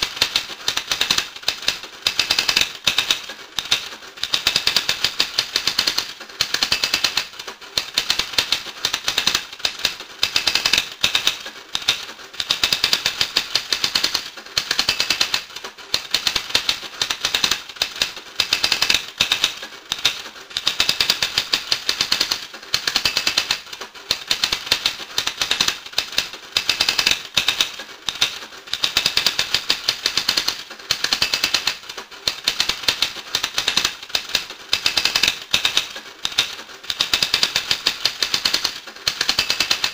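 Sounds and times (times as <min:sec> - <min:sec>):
rapid dense clicking: 0:00.0 - 0:39.9.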